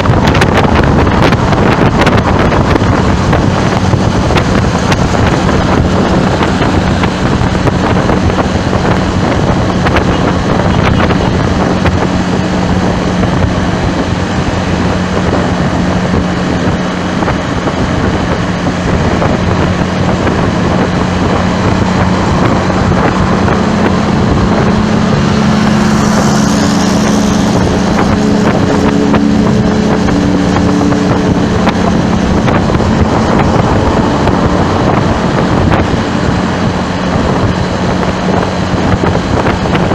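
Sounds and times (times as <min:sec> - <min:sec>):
higher engine note: 0:00.0 - 0:39.9
traffic engines humming: 0:00.0 - 0:39.9
wind buffeting microphone: 0:00.0 - 0:39.9.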